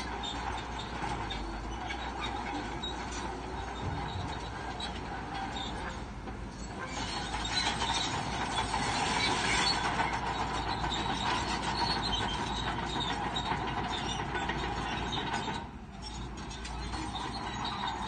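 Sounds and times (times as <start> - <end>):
bulldozer diesel engine under load: 0.0 - 18.0
clanking steel tracks and rock: 0.0 - 18.0.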